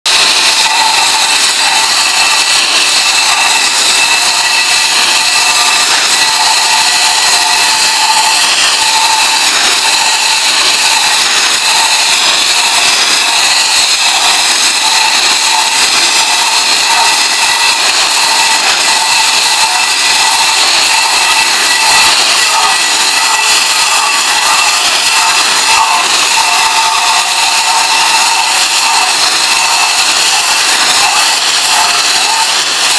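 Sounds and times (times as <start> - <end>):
high-pressure water jet hissing: 0.1 - 32.9.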